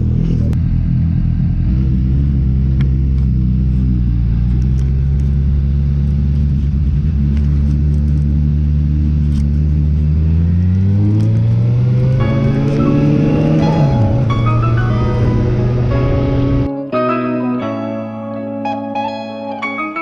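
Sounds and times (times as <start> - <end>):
motorbike engine idling and revving: 0.0 - 16.7.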